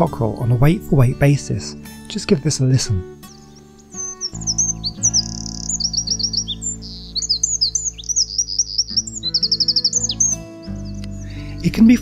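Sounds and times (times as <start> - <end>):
soft background music: 0.0 - 12.0
wren singing: 0.0 - 12.0.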